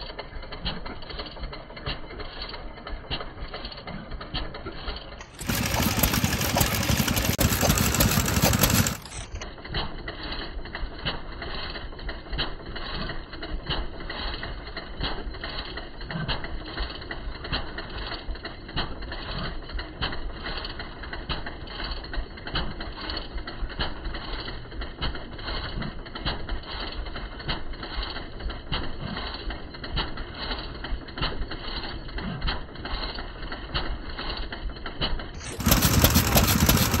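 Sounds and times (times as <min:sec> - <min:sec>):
stationary engines clattering: 0:00.0 - 0:37.0.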